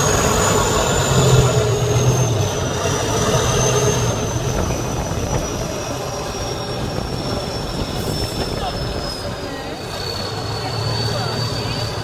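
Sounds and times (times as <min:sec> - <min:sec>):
truck engine low hum: 0:00.0 - 0:12.0.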